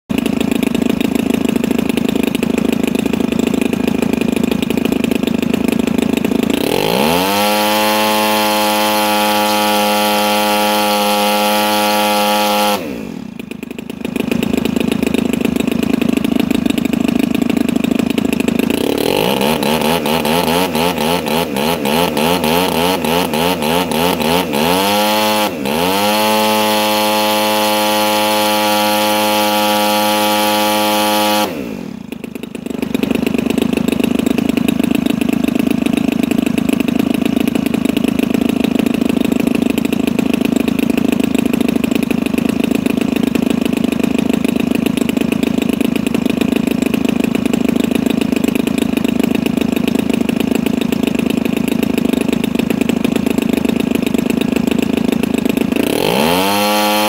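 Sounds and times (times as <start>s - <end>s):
model airplane engine revving: 0.1s - 57.0s.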